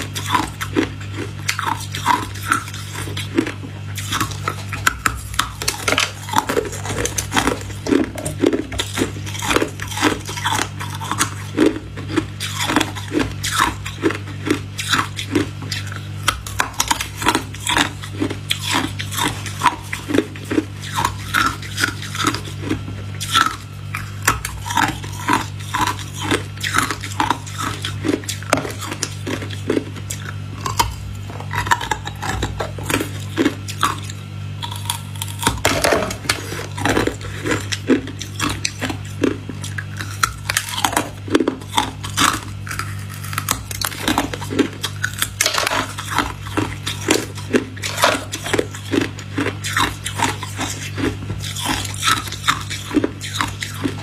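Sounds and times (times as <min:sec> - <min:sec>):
ice pop crunching between teeth: 0:00.0 - 0:54.0
steady low hum: 0:00.0 - 0:54.0.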